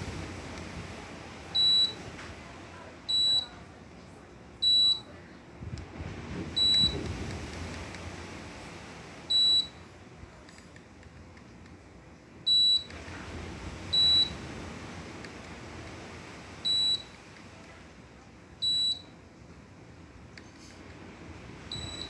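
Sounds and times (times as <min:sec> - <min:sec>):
air conditioner beeps: 0:00.0 - 0:07.7, 0:09.2 - 0:10.5, 0:12.3 - 0:20.8, 0:21.5 - 0:22.0.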